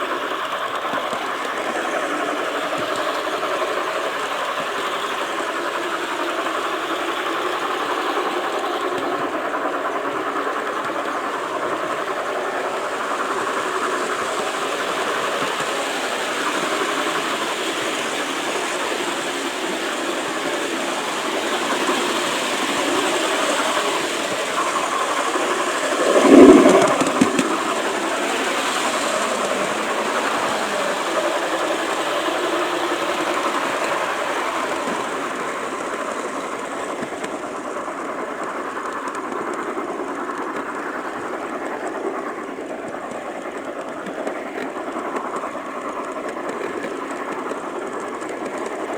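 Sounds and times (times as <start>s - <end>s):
model train rumbling on track: 0.0s - 48.9s.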